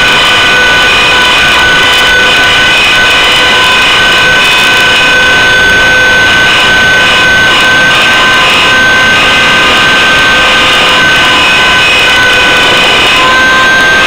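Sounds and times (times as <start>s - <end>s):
model helicopter rotor whine: 0.0s - 14.0s
rushing noise: 0.0s - 14.0s.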